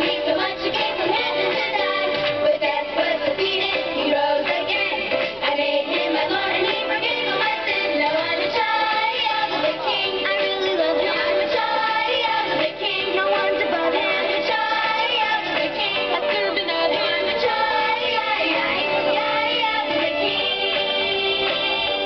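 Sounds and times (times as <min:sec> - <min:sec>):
children's song with singing voices: 0:00.0 - 0:22.0.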